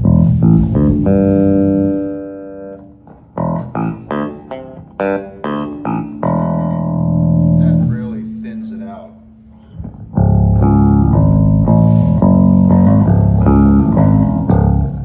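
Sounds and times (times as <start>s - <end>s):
electric bass notes: 0.0s - 15.0s.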